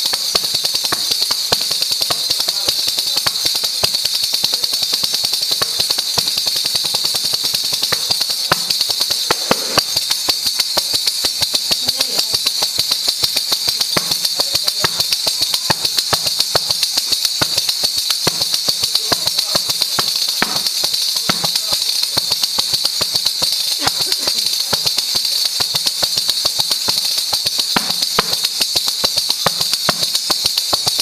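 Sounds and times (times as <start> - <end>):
tambourine played by hand: 0.0 - 31.0.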